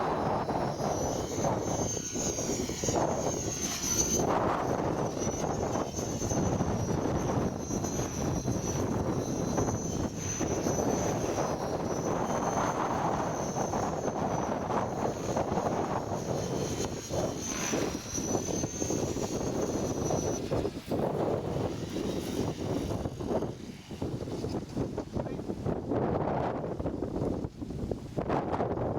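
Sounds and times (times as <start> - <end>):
helicopter motor and rotor whine: 0.0 - 28.9
wind buffeting microphone: 0.0 - 28.9.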